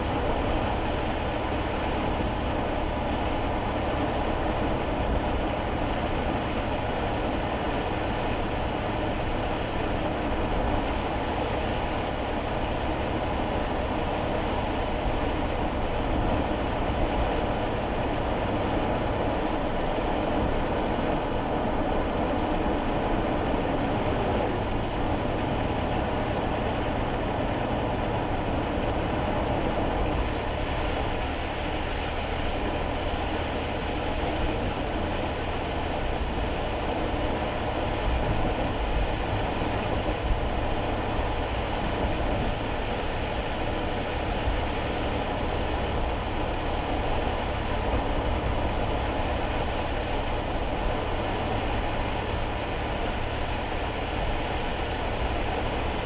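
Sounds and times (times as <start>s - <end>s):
tyre noise on wet road: 0.0s - 56.0s.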